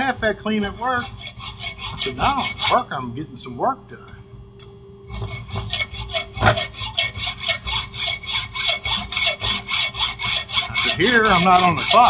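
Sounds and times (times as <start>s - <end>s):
file rasping on steel: 0.0s - 2.9s, 5.1s - 12.0s.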